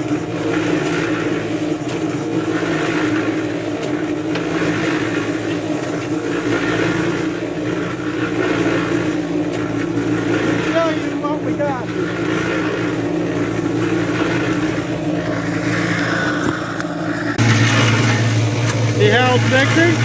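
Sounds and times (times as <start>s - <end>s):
cement mixer drum turning: 0.0s - 20.0s
low motor hum: 0.0s - 20.0s.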